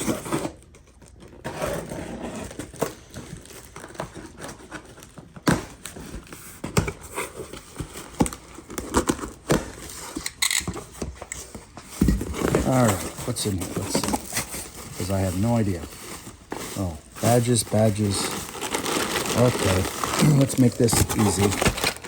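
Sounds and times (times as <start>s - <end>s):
cardboard packaging rustling: 0.0s - 22.0s.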